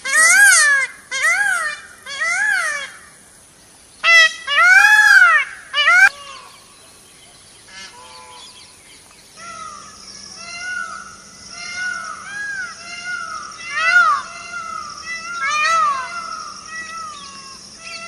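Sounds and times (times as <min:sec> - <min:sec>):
peacock calling: 0:00.0 - 0:03.2, 0:04.0 - 0:07.0, 0:07.6 - 0:08.8, 0:09.4 - 0:18.0.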